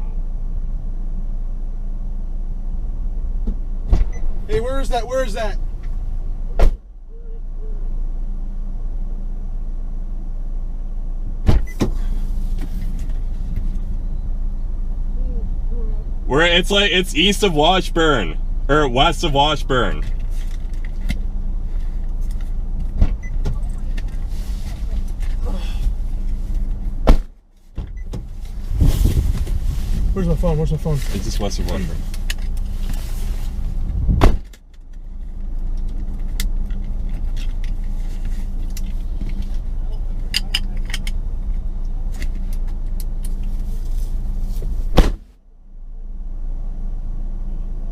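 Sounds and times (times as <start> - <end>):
car engine rumble and road noise: 0.0 - 47.9.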